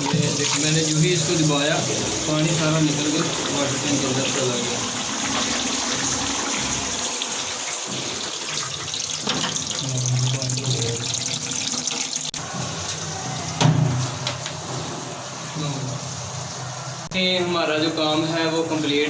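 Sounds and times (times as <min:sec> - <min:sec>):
water filling toilet tank: 0:00.0 - 0:16.7.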